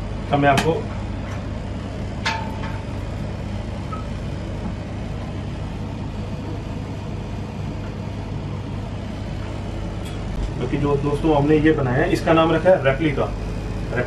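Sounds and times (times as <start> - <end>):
low rumble with hum: 0.0 - 14.0.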